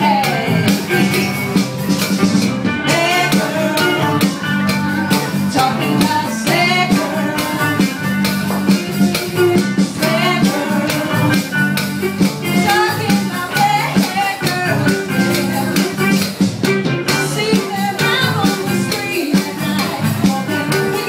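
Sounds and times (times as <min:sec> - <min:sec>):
music with steady beat and bass: 0:00.0 - 0:21.0.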